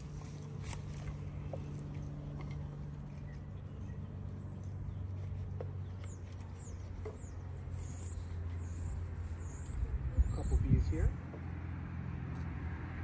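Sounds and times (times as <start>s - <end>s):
small birds chirping: 0.0s - 11.5s
steady low hum: 0.0s - 12.5s.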